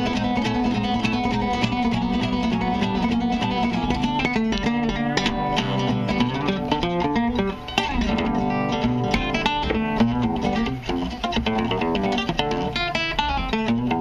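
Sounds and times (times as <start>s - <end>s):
acoustic guitar fingerpicked: 0.0s - 14.0s.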